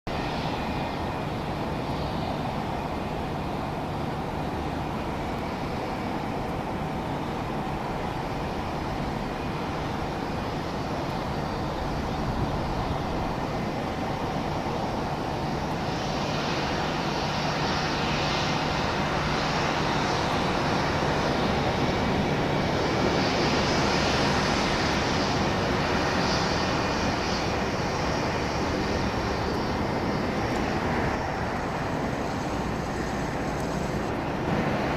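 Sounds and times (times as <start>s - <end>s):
jet engines whining: 0.1s - 34.9s.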